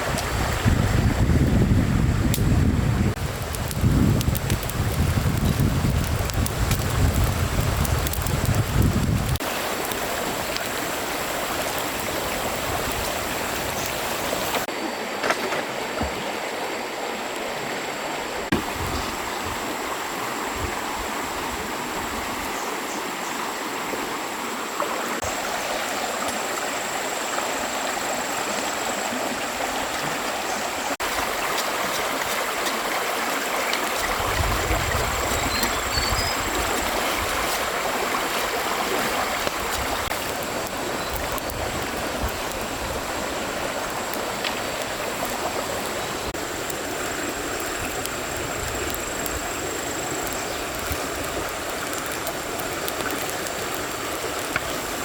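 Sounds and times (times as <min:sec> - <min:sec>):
stream water rushing: 0:04.3 - 0:55.0.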